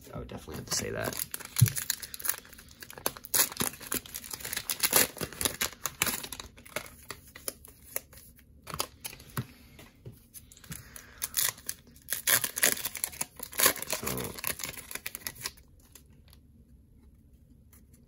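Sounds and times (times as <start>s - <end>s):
plastic wrapper crinkling and tearing: 0.4s - 9.4s, 10.4s - 16.4s.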